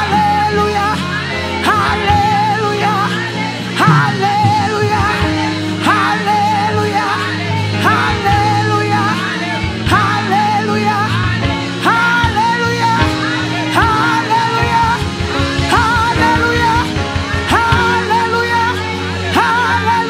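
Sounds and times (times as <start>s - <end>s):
woman singing into microphone: 0.0s - 20.0s
instrumental accompaniment: 1.0s - 19.1s.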